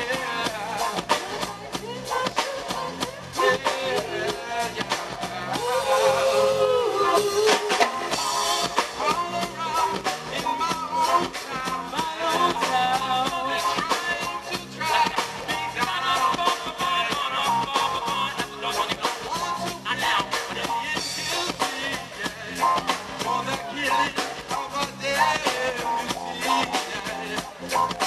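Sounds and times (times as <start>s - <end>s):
drum kit beat: 0.0s - 28.0s
electric guitar: 0.0s - 28.0s
keyboard: 0.0s - 28.0s
person singing: 0.0s - 28.0s.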